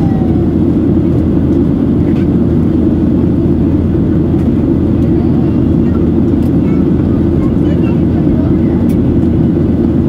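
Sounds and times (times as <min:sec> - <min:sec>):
airplane cabin noise: 0:00.0 - 0:10.0.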